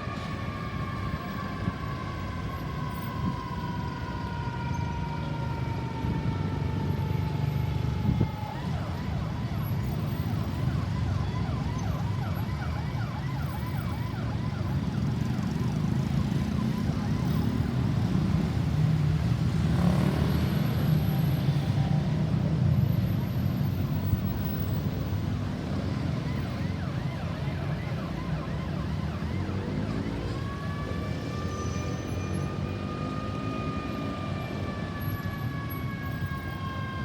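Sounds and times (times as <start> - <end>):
ambulance siren wail and yelp: 0.0 - 37.0
engines and traffic rumble: 0.0 - 37.0.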